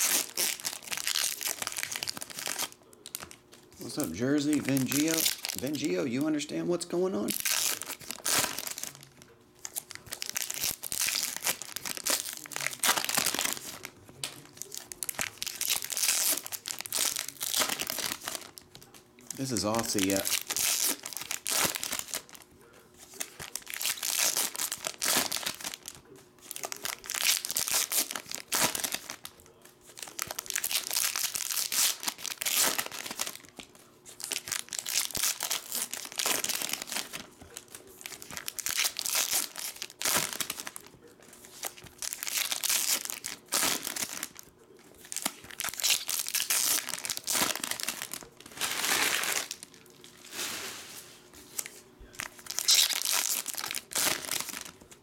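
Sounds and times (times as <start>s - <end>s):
foil wrappers crinkling and tearing: 0.0s - 55.0s.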